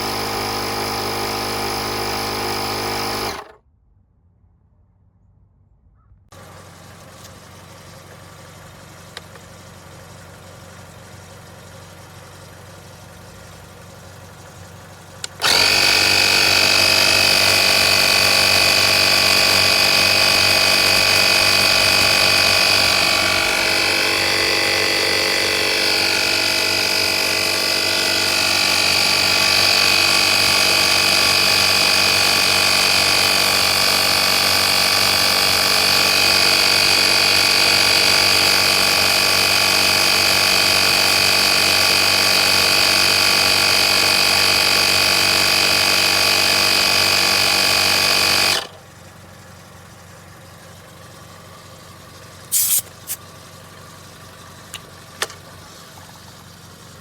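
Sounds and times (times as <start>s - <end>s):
air compressor whining: 0.0s - 3.6s, 11.5s - 57.0s.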